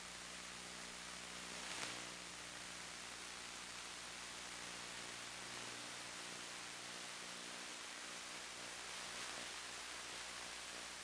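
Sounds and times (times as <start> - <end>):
crackle: 0.0 - 11.0
low electrical hum: 0.0 - 11.0
static hiss: 0.0 - 11.0.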